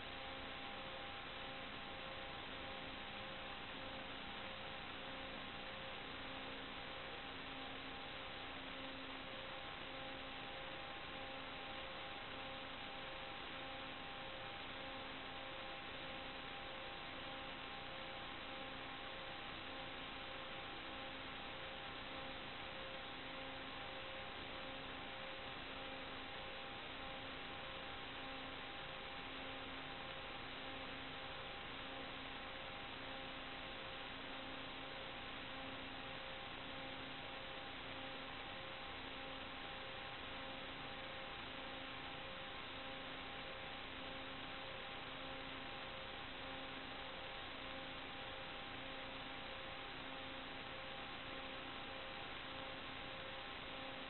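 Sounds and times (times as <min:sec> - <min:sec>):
faint electrical tones: 0:00.0 - 0:54.0.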